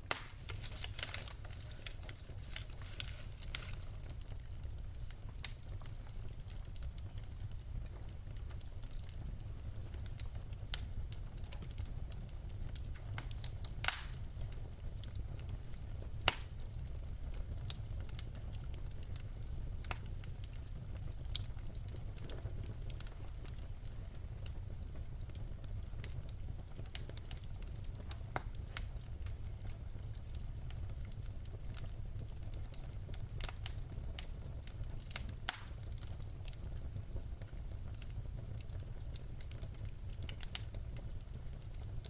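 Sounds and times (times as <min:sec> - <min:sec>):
burning logs snapping and popping: 0:00.0 - 0:42.0
low rumble of flames: 0:00.0 - 0:42.0.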